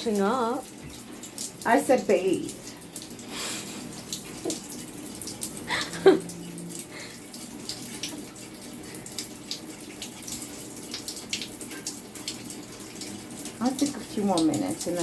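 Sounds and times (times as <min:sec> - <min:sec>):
tap water running and spattering: 0:00.0 - 0:15.0.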